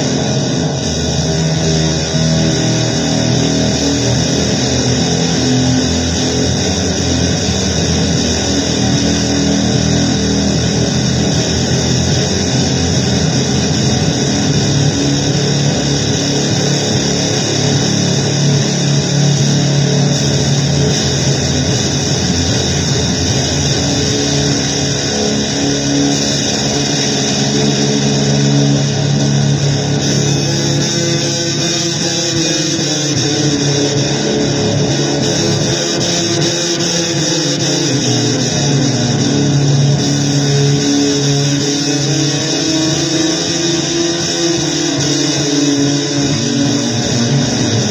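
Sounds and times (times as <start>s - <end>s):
distorted electric guitar noise music: 0.0s - 47.9s.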